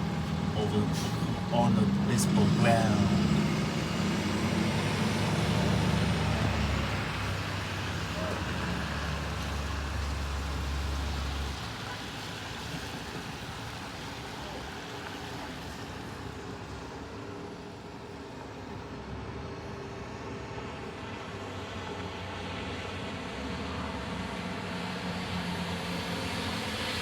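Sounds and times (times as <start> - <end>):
hiss of passing vehicles: 0.0 - 27.0.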